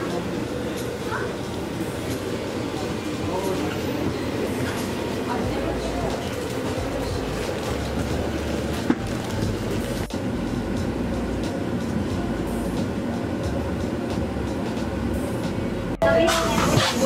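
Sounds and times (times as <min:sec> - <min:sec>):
low hum and hiss in train cab: 0:00.0 - 0:17.0.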